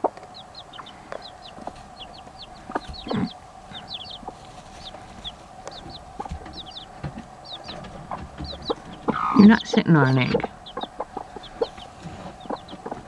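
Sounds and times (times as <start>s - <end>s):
chicks peeping: 0.0s - 13.0s
hen clucking: 0.0s - 13.0s.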